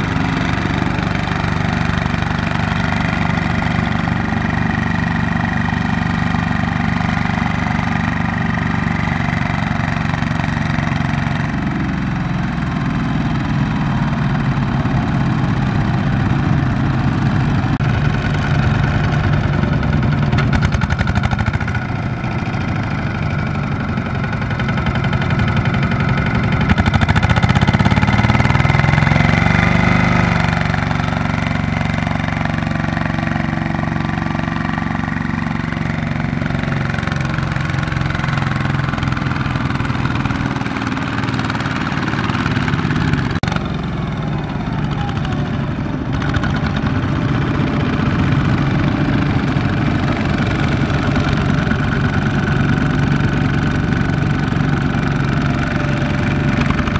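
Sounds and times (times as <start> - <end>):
diesel tractor engines running: 0.0 - 56.9.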